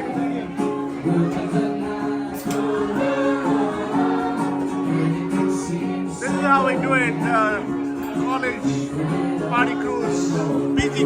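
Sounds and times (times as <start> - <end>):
guitar: 0.0 - 11.0
person singing: 0.0 - 11.0.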